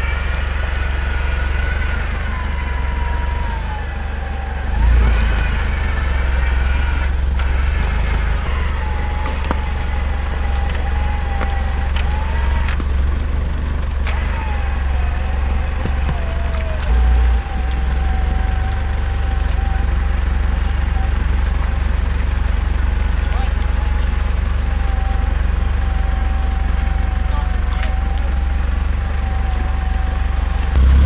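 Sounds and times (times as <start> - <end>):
engine low rumble with whine: 0.0 - 31.0.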